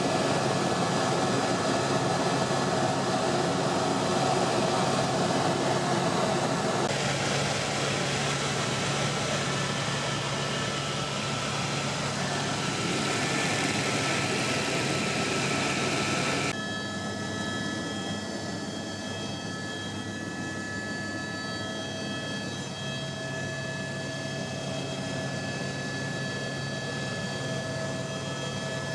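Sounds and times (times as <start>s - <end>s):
helicopter engine and rotor noise: 0.0s - 28.9s.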